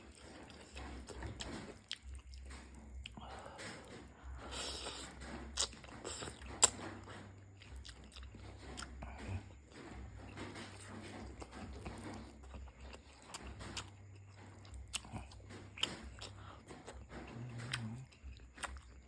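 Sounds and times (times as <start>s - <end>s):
person chewing noodles: 0.0s - 19.0s
steady low hum: 0.0s - 19.0s.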